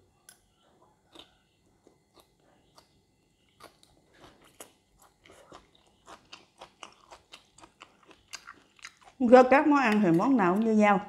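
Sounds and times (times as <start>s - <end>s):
faint close-up chewing: 0.0s - 9.2s.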